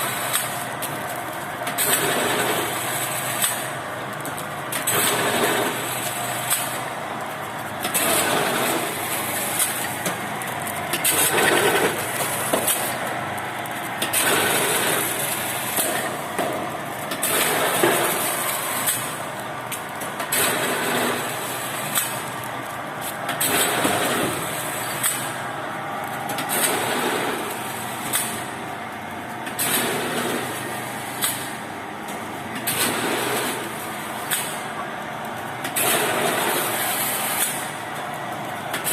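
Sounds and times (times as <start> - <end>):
packing machine clatter: 0.1 - 25.4, 26.1 - 28.6, 29.4 - 38.9.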